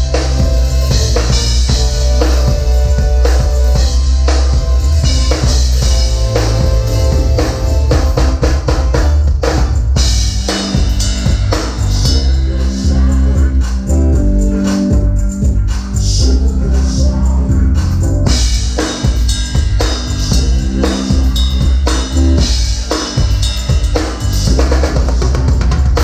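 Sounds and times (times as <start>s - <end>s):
bass line: 0.0s - 26.0s
drum kit playing: 0.0s - 26.0s
held instrumental notes: 0.0s - 26.0s.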